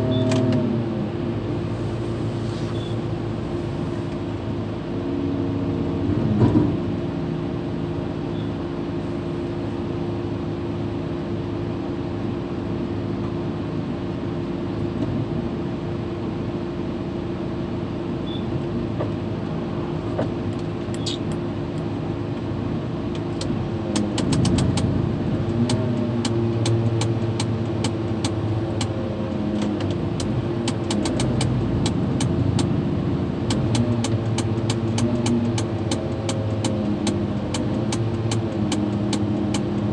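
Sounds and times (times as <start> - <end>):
crane diesel engine running: 0.0 - 39.9.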